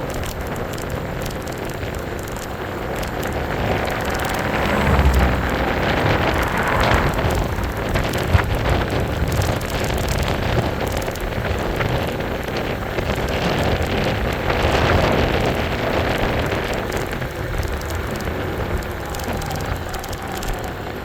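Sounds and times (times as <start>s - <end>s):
road and tyre noise: 0.0s - 21.0s
wind buffeting microphone: 0.0s - 21.0s.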